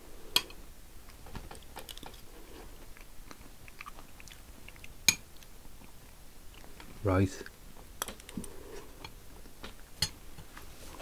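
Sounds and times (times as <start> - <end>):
person chewing: 0.4 - 9.6.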